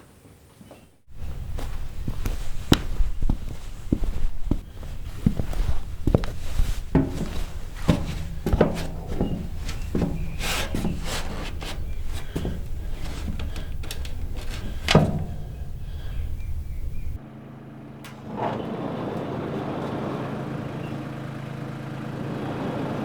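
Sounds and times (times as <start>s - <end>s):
steady low hum: 1.1s - 21.0s.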